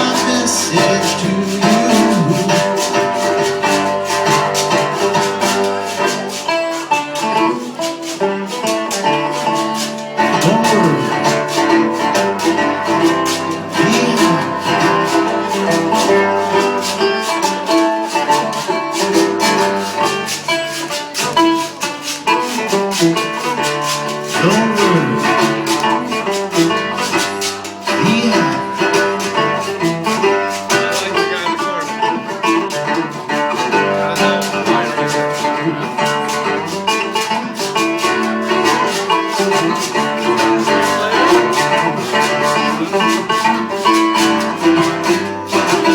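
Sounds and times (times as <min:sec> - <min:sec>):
acoustic guitar strumming: 0:00.0 - 0:45.9
shaker rhythm: 0:00.0 - 0:45.9.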